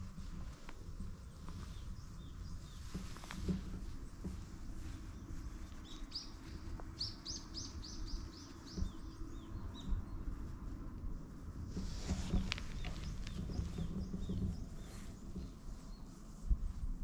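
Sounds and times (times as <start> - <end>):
songbird chirping: 0.0 - 10.8, 11.8 - 16.4
steady low rumble: 0.0 - 17.0.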